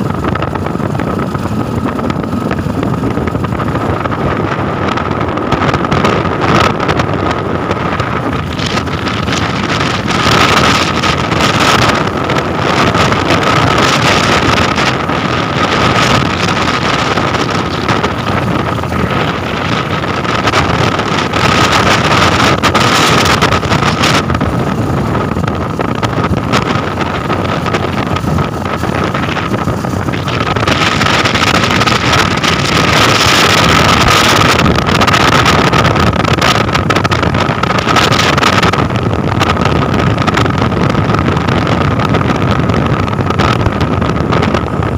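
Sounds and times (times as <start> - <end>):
motorcycle engine: 0.0 - 44.9
wind rushing over microphone: 0.0 - 44.9.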